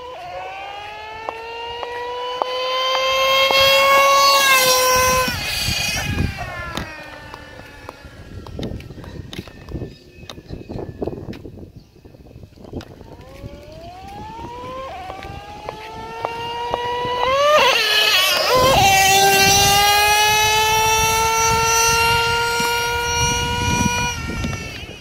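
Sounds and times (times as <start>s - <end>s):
rc truck engine screaming: 0.0s - 9.6s, 13.0s - 25.0s.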